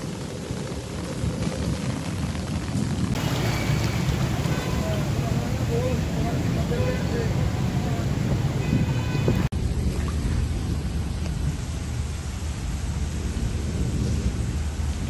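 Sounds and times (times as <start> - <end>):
heavy rain on flooded street: 0.0 - 15.0.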